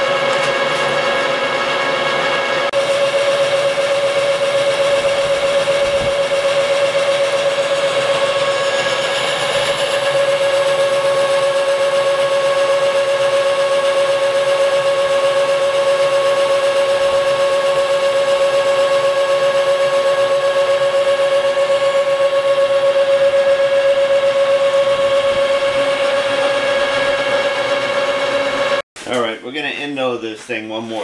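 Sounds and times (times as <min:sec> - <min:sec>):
metal lathe whine: 0:00.0 - 0:28.8.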